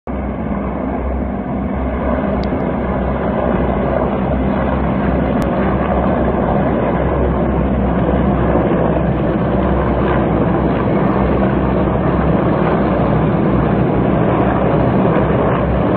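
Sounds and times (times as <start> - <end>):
helicopters rotor and engine drone: 0.1 - 15.9.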